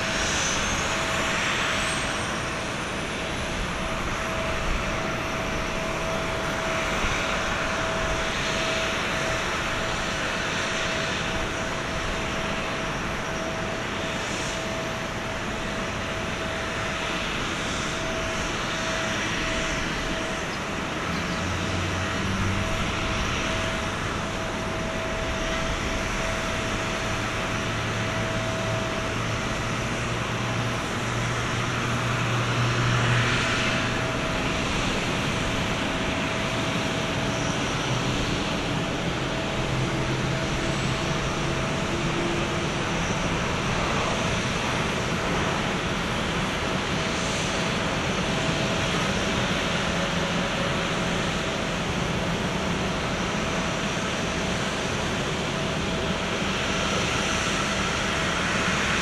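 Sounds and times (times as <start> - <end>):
low drone: 0.0 - 58.9
continuous whining tone: 0.0 - 59.0
jet engine hiss: 0.0 - 59.0.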